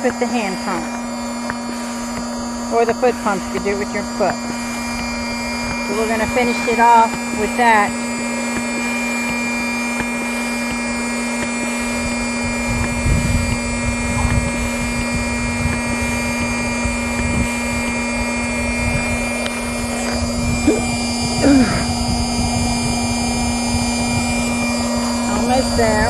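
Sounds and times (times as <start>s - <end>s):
electric air pump humming: 0.0s - 26.0s
low puffing pump strokes: 0.0s - 26.0s.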